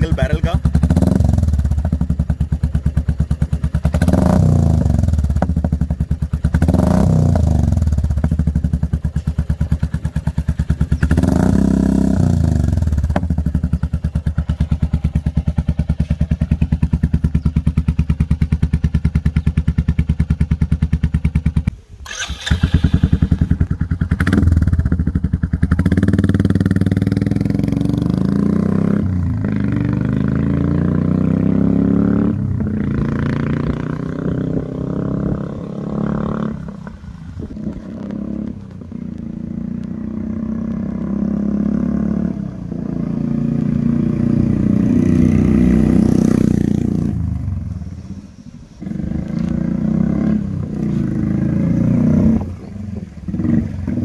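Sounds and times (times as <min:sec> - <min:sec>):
motorcycle accelerating: 0:00.0 - 0:54.0
motorcycle engine idling and revving: 0:00.0 - 0:54.0.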